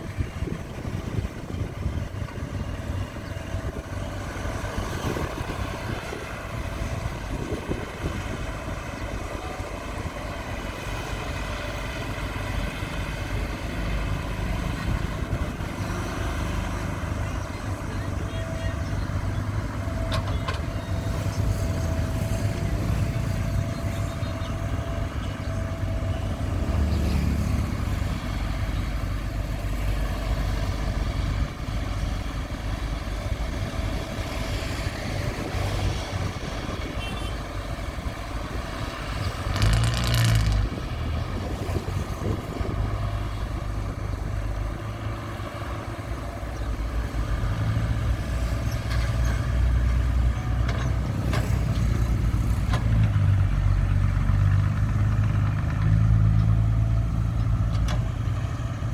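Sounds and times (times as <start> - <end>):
diesel earthmoving machinery: 0.0 - 58.9.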